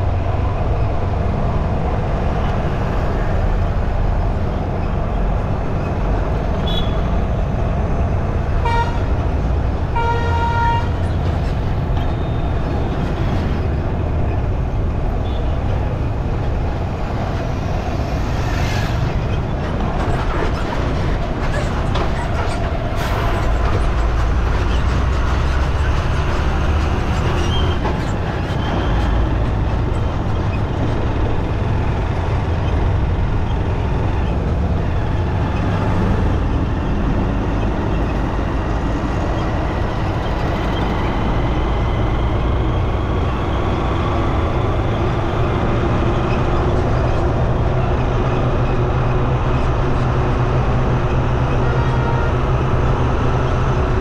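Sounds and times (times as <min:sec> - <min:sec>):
engines and road traffic rumbling: 0:00.0 - 0:54.0.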